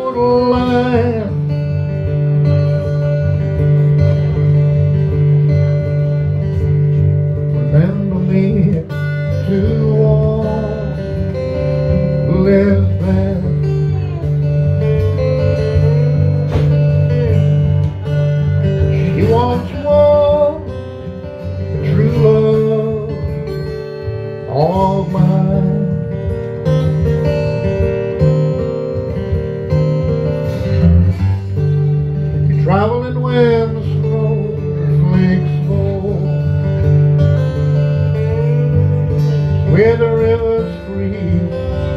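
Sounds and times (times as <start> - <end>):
slide acoustic guitar: 0.0 - 41.9.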